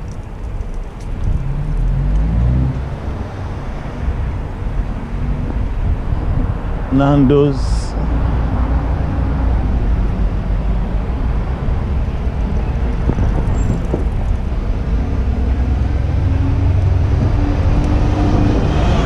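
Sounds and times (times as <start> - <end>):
low rumble of road traffic: 0.0 - 19.0.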